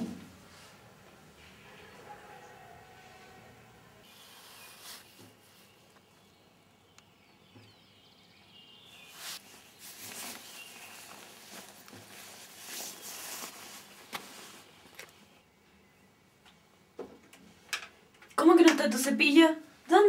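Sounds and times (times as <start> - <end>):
faint ambient noise: 0.0 - 20.0.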